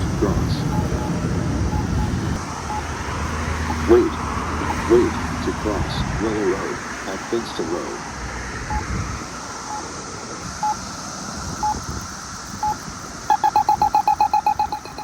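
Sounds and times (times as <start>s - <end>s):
crosswalk signal beeps: 0.0s - 7.8s, 8.6s - 9.9s, 10.6s - 10.9s, 11.5s - 11.9s, 12.5s - 15.0s
rapid crosswalk ticking: 0.0s - 15.0s.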